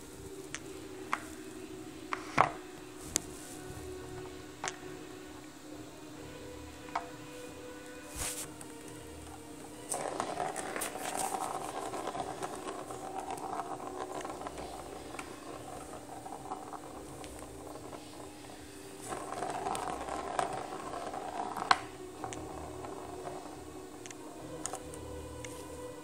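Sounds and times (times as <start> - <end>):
plastic ball rolling in cardboard track: 0.0 - 26.0.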